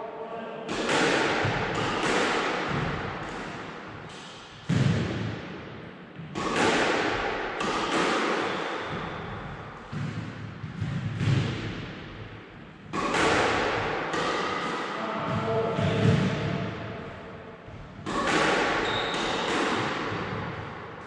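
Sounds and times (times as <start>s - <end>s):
squash ball hits echoing: 0.7s - 21.0s.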